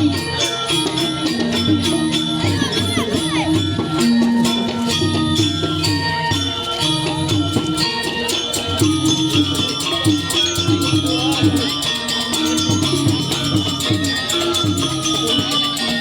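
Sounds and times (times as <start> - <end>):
gamelan music: 0.0 - 16.0.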